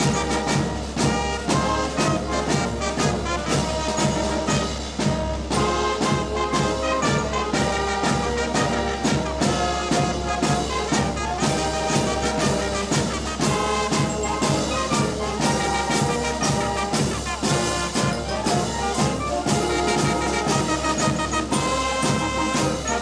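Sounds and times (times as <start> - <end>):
brass playing march tune: 0.0 - 23.0
steady drum beat: 0.0 - 23.0.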